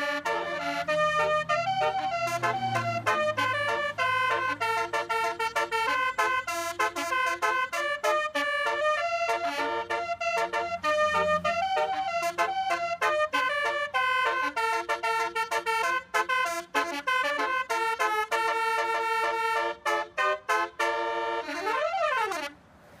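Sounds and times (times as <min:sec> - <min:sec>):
musical bus horn melody: 0:00.0 - 0:22.6.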